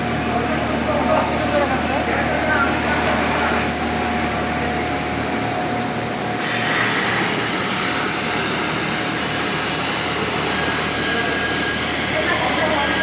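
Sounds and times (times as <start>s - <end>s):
arc welding crackling hiss: 0.0s - 13.0s.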